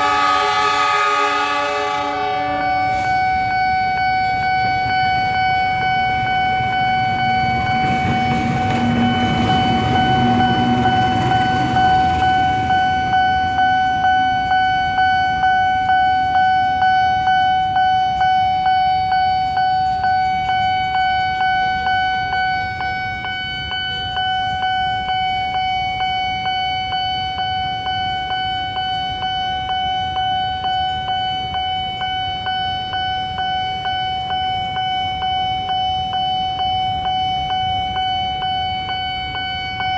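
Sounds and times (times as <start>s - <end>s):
electronic railway crossing bell: 0.0s - 39.9s
passing train rumble: 0.0s - 39.9s.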